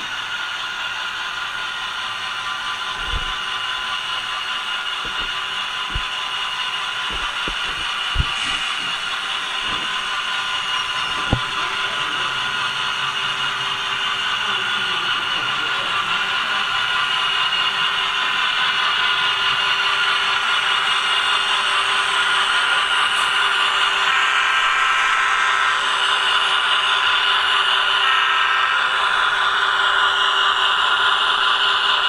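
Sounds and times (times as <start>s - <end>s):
model train whirring and clattering: 0.0s - 32.0s.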